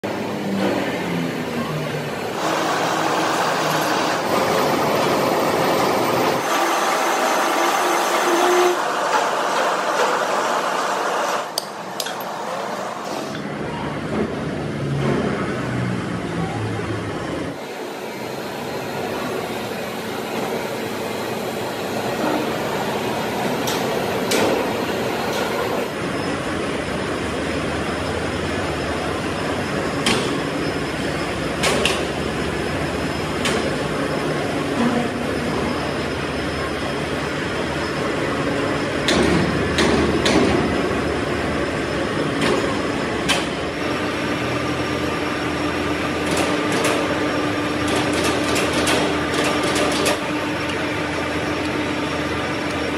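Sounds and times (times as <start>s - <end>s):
machine shop machinery din: 0.0s - 52.9s.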